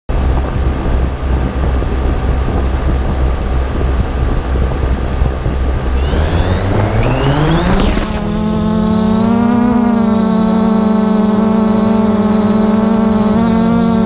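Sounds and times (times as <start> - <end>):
light aircraft engine and propeller: 0.1 - 14.0.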